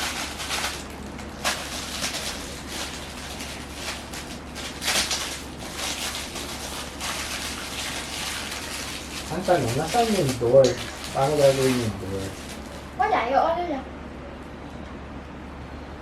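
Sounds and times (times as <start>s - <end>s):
rustling and scraping handling noise: 0.0s - 13.0s.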